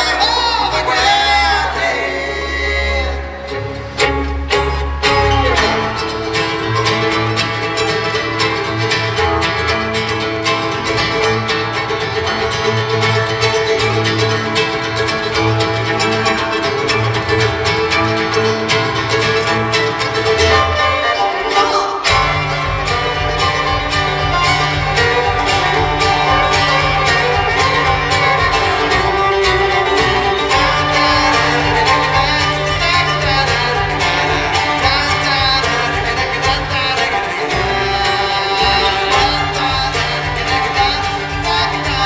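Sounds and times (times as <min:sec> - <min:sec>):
bluegrass string band playing: 0:00.0 - 0:42.0
upright bass: 0:00.0 - 0:42.0.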